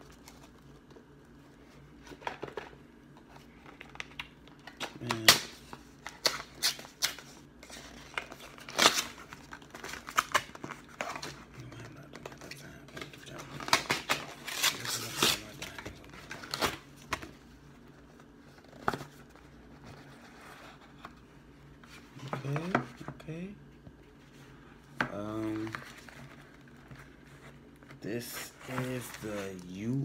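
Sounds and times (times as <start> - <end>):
paper and card rustling: 0.0 - 23.2, 24.1 - 30.0.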